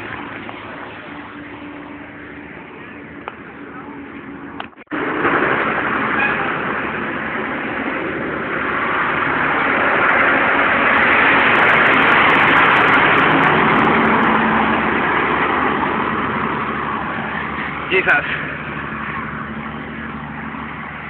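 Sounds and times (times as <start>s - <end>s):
large truck passing: 0.0s - 21.0s.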